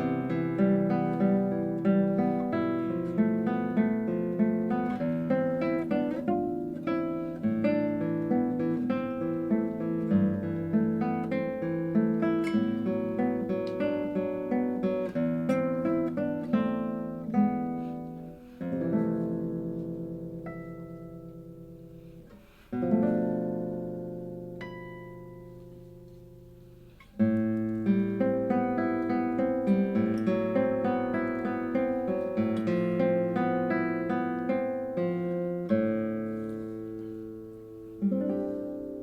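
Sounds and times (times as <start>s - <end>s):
classical guitar plucked notes: 0.0s - 39.0s
guitar chord ringing: 0.0s - 39.0s.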